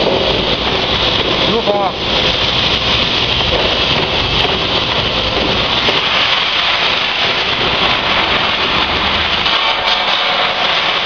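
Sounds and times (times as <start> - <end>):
roasting machine with tumbling nuts: 0.0 - 11.0.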